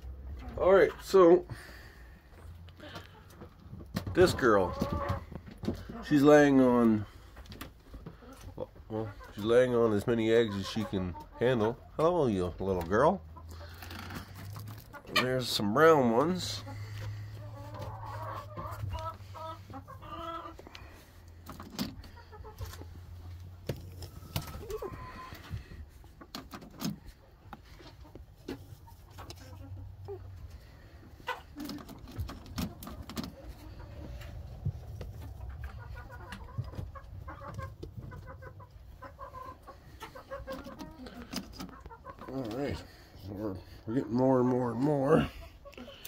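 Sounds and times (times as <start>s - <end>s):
hens clucking: 0.0s - 46.0s.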